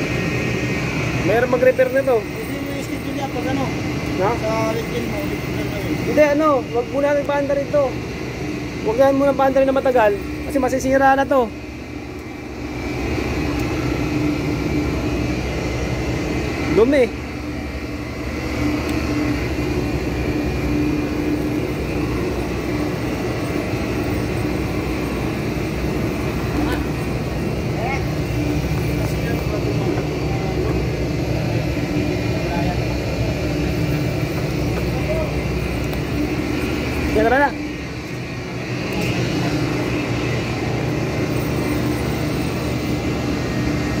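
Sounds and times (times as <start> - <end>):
air conditioner fan rushing air: 0.0 - 44.0
low motor hum: 0.0 - 44.0.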